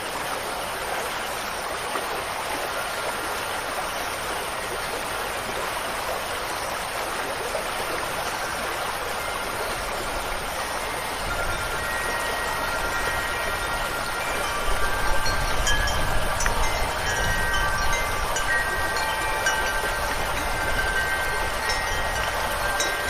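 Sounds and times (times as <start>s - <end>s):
running water rushing: 0.0s - 23.0s
faint wind-chime tones: 2.3s - 23.0s.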